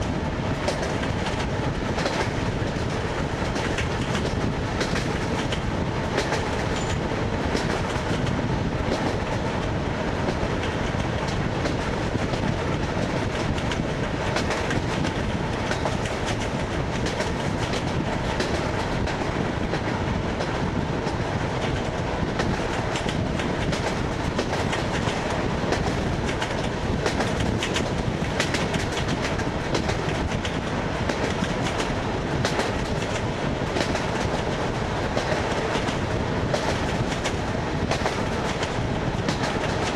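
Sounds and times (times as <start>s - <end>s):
train running rumble: 0.0s - 39.9s
wheels clicking over rail joints: 0.6s - 9.6s, 10.3s - 39.9s.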